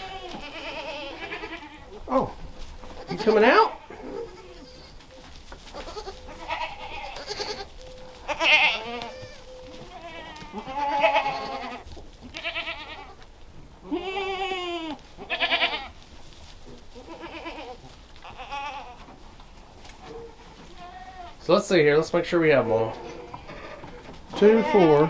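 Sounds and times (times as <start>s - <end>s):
goats bleating: 0.0s - 16.0s, 16.9s - 19.2s, 20.0s - 25.0s.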